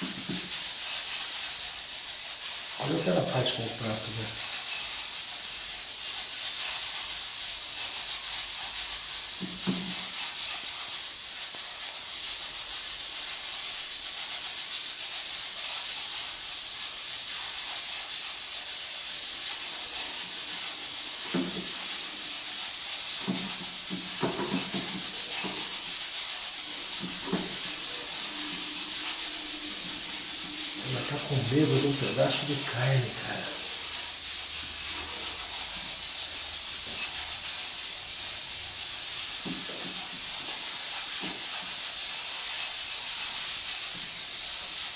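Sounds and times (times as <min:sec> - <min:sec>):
high-pitched recording hiss: 0:00.0 - 0:44.9.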